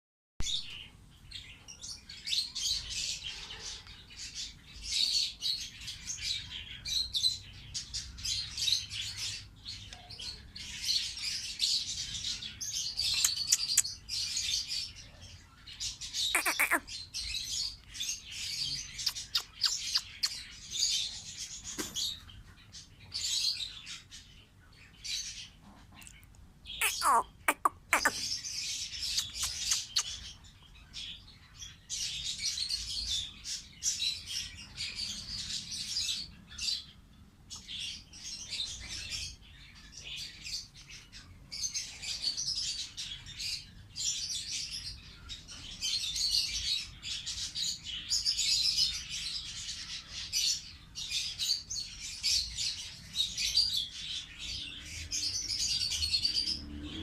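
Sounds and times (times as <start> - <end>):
lovebirds chirping: 0.4 - 57.0.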